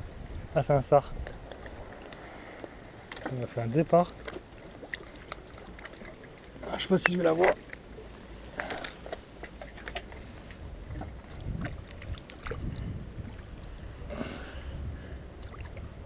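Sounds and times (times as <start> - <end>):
wind rumbling on microphone: 0.0 - 6.7, 7.9 - 16.0
small waves lapping: 1.1 - 16.0.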